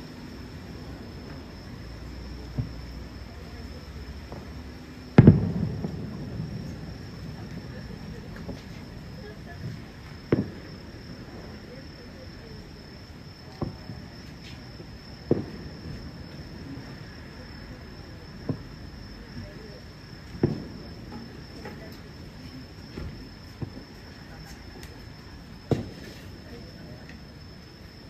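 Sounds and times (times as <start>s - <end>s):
crickets trilling: 0.0s - 28.0s
distant fireworks booms: 0.0s - 28.0s
faint fireworks pops: 0.9s - 28.0s.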